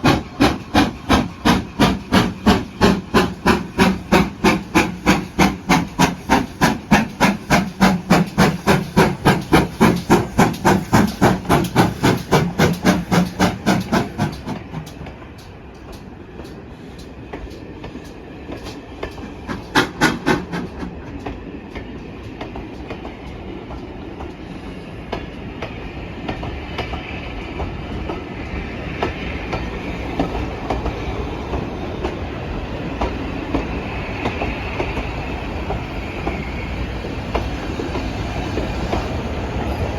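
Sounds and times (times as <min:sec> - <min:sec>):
steam locomotive exhaust beats: 0:00.0 - 0:39.9
train wheels rolling on rails: 0:00.0 - 0:39.9.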